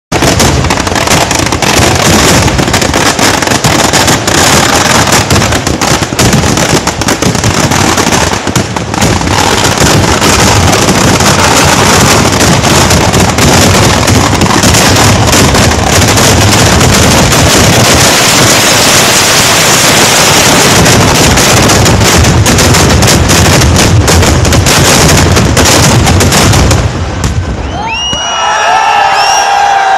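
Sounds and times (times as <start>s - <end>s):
fireworks bangs and crackling: 0.1s - 29.9s.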